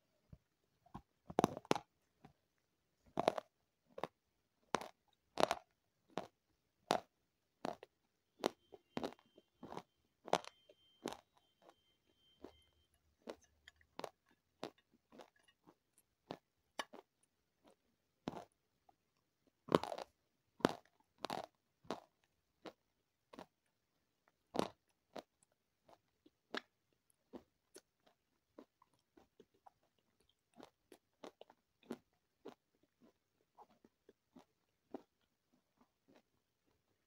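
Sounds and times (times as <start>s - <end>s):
crunching and chewing food: 0.3s - 37.0s.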